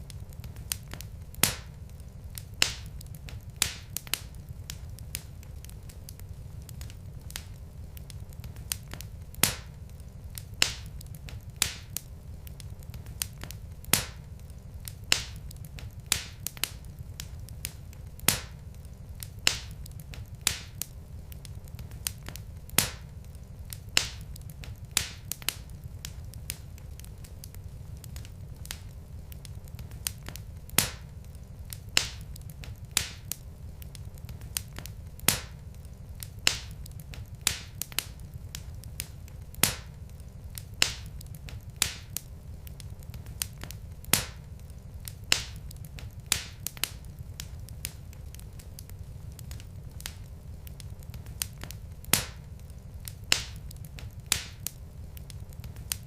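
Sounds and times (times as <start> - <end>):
log fire crackling: 0.0 - 56.0
steady low rumble: 0.0 - 56.0.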